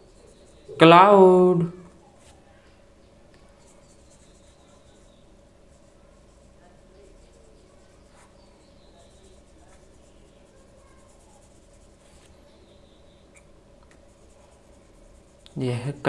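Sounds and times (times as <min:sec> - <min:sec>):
paintbrush swishing on paper: 0:00.0 - 0:01.2, 0:03.4 - 0:15.7
low steady hum: 0:00.0 - 0:16.0.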